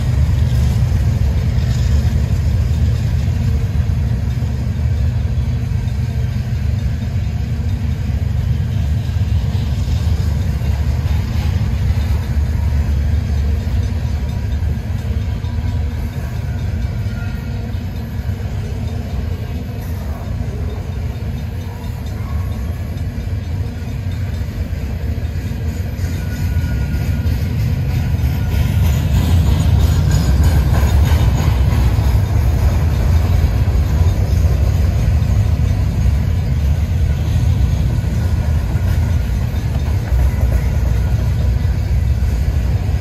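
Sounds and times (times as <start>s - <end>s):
freight train rumbling: 0.0s - 43.0s.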